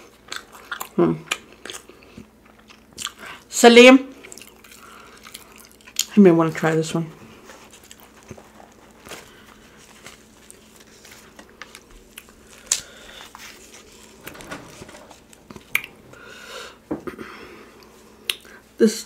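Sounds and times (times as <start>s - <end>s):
person chewing food: 0.0s - 3.5s, 4.1s - 6.1s, 7.2s - 14.2s, 15.2s - 18.6s.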